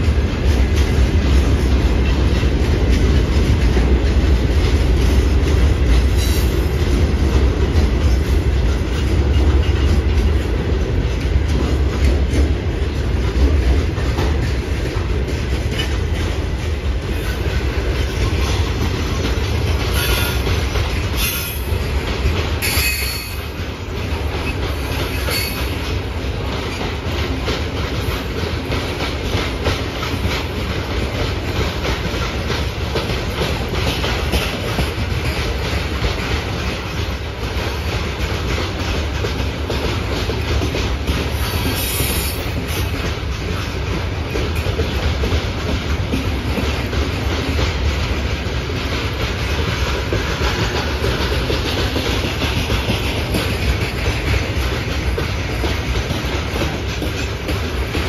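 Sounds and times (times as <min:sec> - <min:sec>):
low rumble of wagons: 0:00.0 - 0:58.0
wheels clicking over rail joints: 0:00.0 - 0:58.0.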